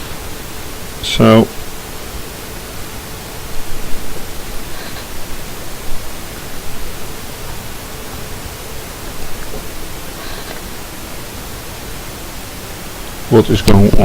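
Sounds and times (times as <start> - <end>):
background hiss: 0.0 - 14.0
faint steady hum: 0.0 - 14.0.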